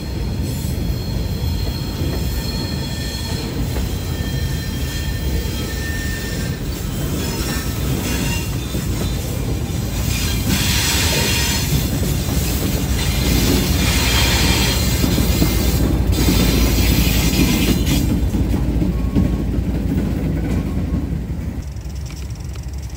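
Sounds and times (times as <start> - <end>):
freight train rumbling: 0.0 - 22.9
wheels squealing and clattering: 0.3 - 22.9.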